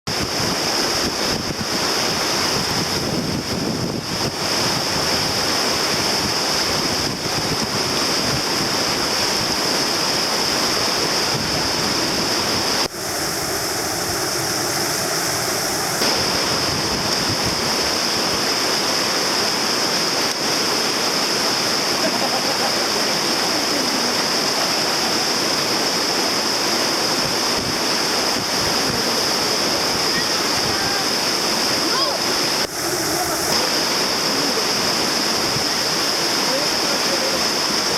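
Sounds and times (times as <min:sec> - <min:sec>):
whitewater rushing: 0:00.1 - 0:37.9.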